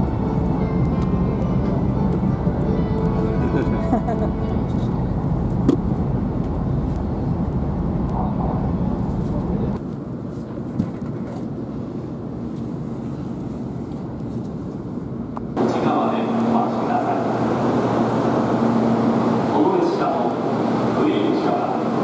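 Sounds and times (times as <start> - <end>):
passenger train rumble: 0.0 - 22.0.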